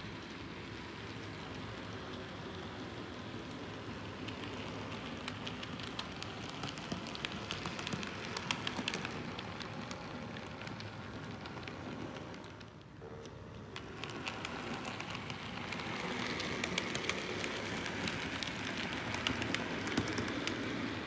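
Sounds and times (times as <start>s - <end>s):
model train motors rumbling: 0.0s - 21.0s
wheels clicking over rail joints: 0.0s - 21.0s.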